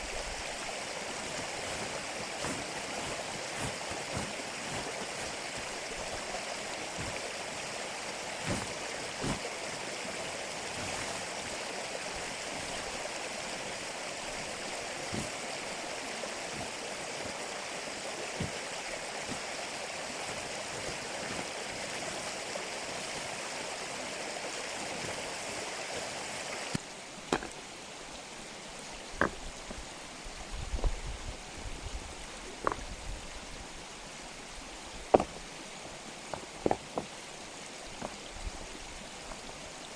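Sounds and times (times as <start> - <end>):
mountain stream rushing: 0.0 - 30.8, 32.2 - 39.9.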